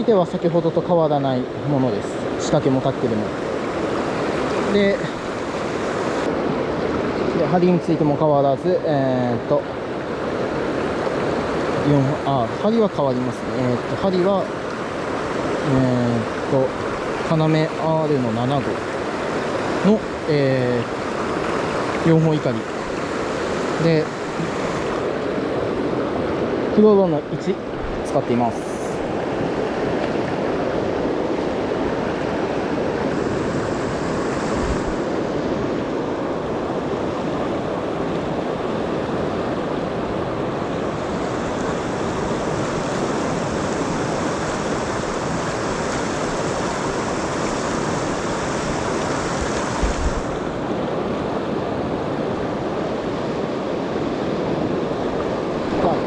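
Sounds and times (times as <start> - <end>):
shallow river rushing: 0.0 - 56.0.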